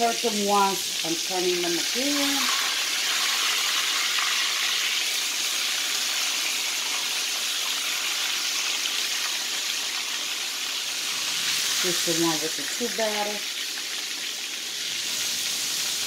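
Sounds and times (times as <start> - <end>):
pork chops sizzling in oil: 0.0 - 16.0.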